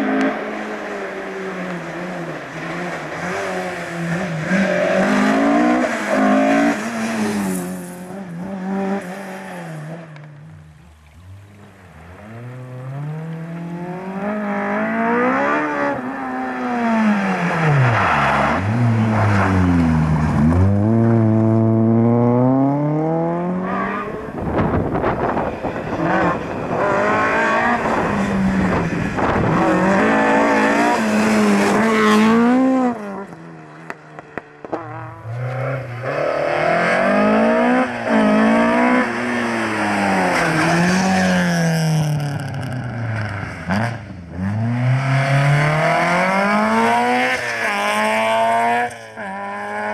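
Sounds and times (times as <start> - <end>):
rally car engines revving: 0.0 - 49.9.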